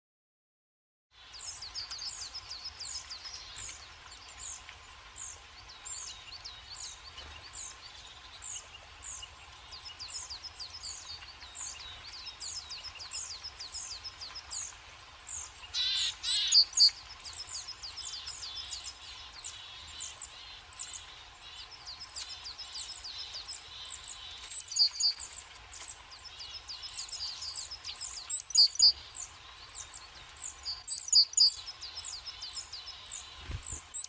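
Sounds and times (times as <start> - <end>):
birds chirping: 1.2 - 34.0.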